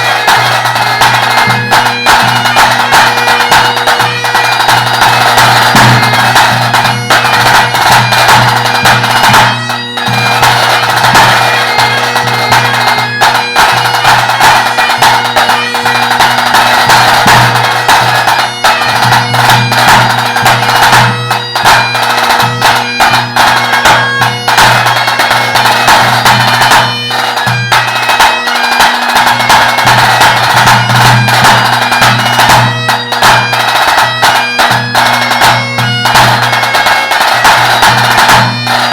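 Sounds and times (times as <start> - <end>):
bagpipe playing a tune: 0.0 - 38.9
tenor drum beating: 0.0 - 38.9.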